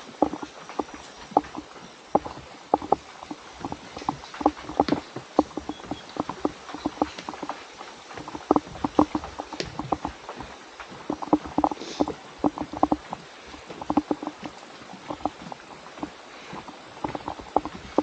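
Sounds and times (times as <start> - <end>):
faint steady hiss: 0.0 - 18.0
hollow wooden knocks: 0.0 - 18.0.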